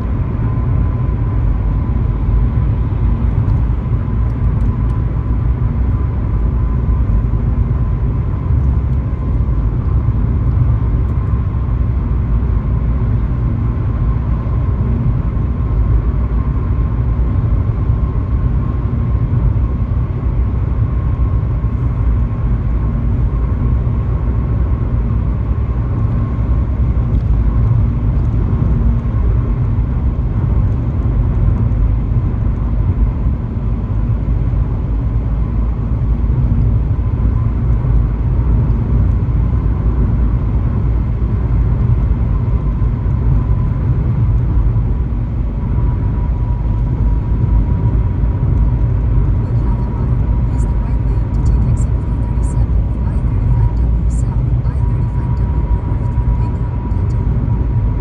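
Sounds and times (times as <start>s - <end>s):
faint steady whine: 0.0s - 58.0s
road and engine rumble: 0.0s - 58.0s.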